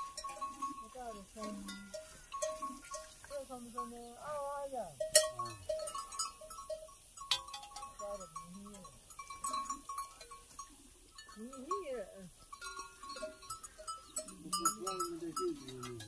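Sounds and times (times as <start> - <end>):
neck bells clanking: 0.0 - 16.0.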